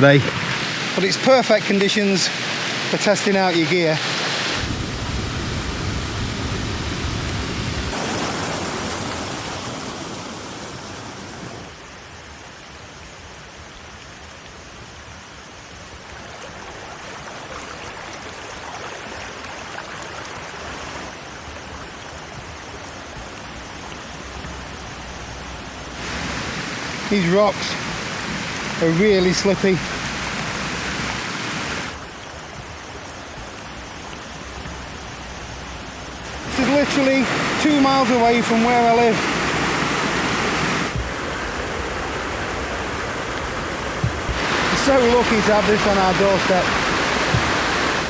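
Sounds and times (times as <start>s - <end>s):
running water: 0.0s - 9.9s, 15.7s - 23.0s, 25.8s - 48.0s
rain: 0.0s - 48.0s.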